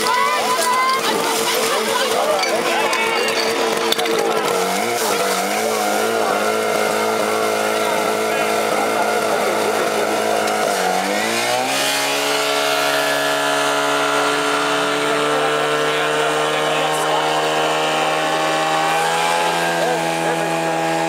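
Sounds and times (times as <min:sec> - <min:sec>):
pump engine running at high revs: 0:00.0 - 0:21.0.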